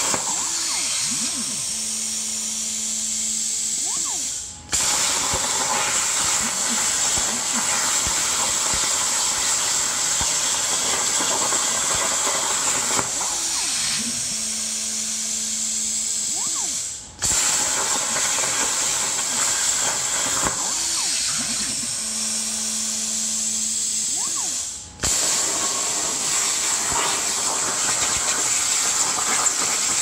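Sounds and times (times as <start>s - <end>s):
motor whines: 0.0s - 30.0s
plasma cutter arc hissing: 0.0s - 30.0s.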